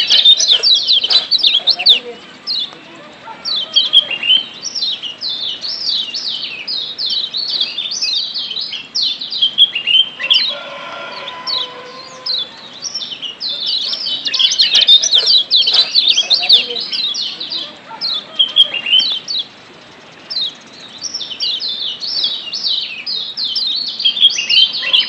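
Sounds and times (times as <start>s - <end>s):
bird sharp sweeping chirps: 0.0s - 2.7s, 3.4s - 25.0s.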